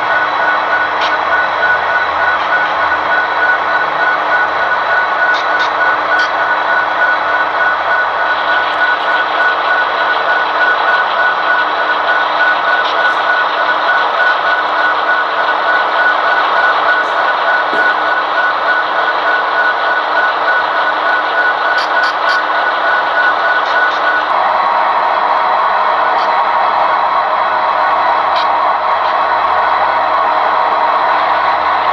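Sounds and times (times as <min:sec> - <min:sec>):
diesel engine drone: 0:00.0 - 0:31.9
high steady whine: 0:00.0 - 0:31.9.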